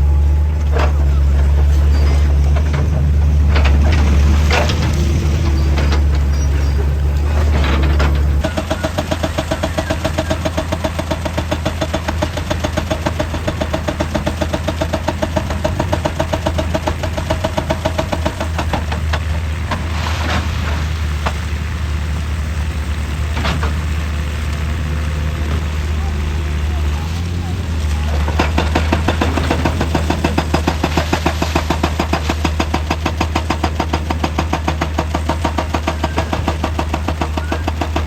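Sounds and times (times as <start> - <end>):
diesel engine hum: 0.0 - 38.0.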